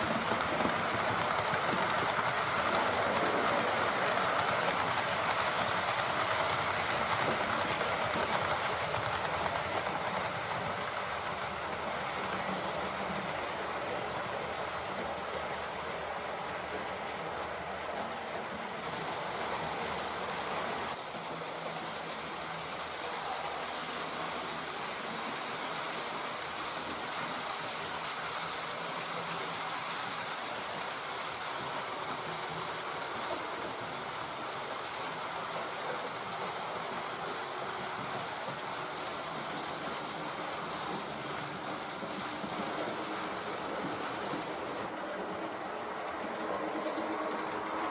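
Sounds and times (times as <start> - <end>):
model train wheels on rails: 0.0 - 47.9.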